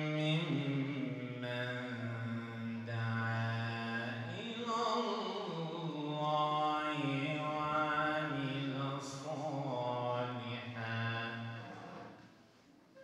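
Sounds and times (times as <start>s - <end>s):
man chanting melodically: 0.0s - 12.1s.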